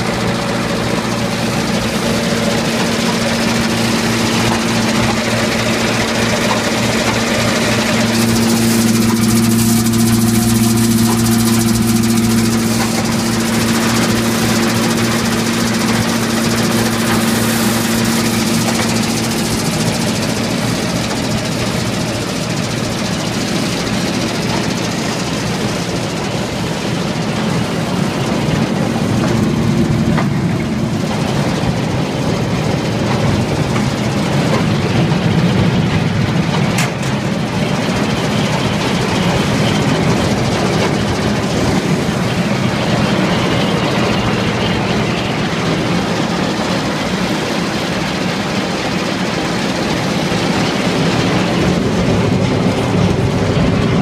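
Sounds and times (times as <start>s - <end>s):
tractor and grinder humming: 0.0s - 54.0s.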